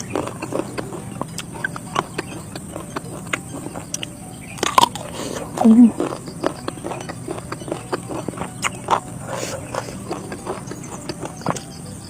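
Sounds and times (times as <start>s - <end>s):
chewing and lip smacking: 0.0s - 12.0s.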